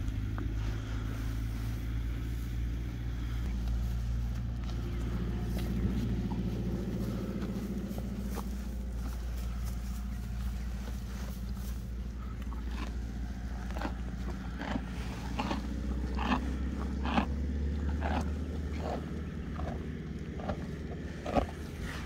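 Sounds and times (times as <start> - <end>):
horse chewing hay: 0.0 - 22.0
steady low rumble: 0.0 - 22.0.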